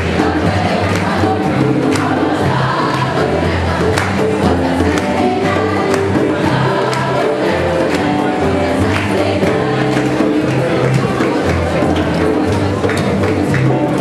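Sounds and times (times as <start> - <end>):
group singing: 0.0 - 14.0
instrumental backing with beat: 0.0 - 14.0.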